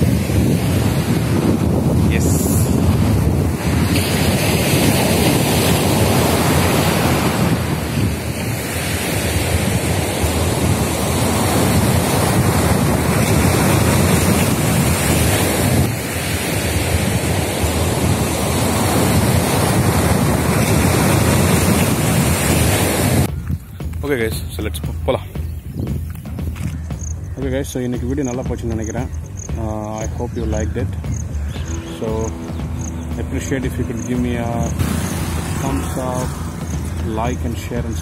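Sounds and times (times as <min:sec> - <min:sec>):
ocean waves breaking: 0:00.0 - 0:23.3, 0:28.2 - 0:38.0
wind buffeting microphone: 0:00.0 - 0:27.6, 0:28.2 - 0:38.0.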